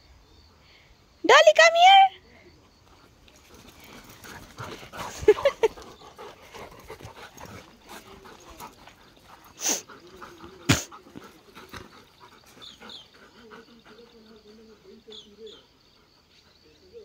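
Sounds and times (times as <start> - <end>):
dogs panting and scuffling: 2.7 - 16.9.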